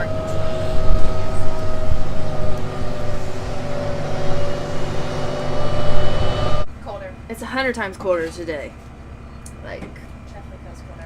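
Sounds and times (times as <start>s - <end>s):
faint steady whine: 0.0s - 11.0s
truck engine and road rumble: 0.0s - 11.0s.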